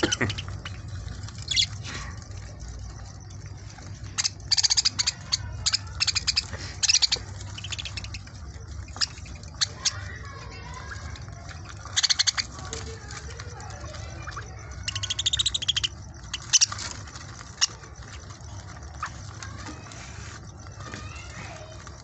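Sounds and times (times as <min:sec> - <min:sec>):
budgerigars clicking chatter: 0:00.0 - 0:22.0.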